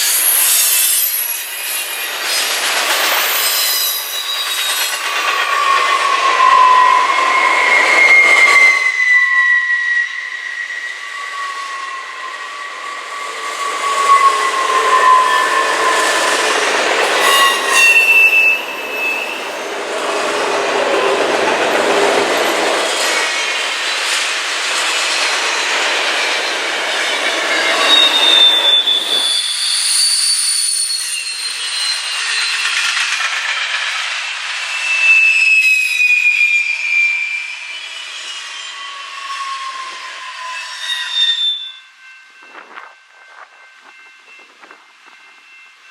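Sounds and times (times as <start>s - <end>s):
rumble and clatter of train cars: 0.0s - 45.9s
train wheels squealing on rail: 0.0s - 45.9s.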